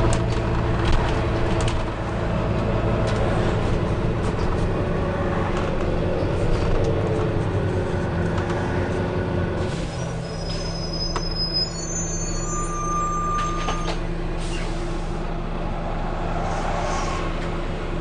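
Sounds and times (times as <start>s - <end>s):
diesel bus engine drone: 0.0s - 18.0s
road noise: 0.0s - 18.0s.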